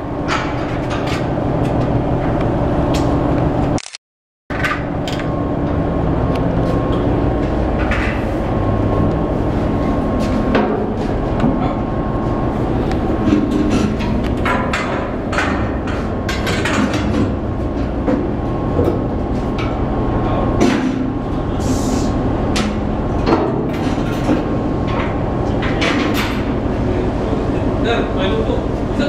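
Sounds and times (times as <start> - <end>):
ship engine rumble and rush: 0.0 - 3.8, 4.8 - 29.0.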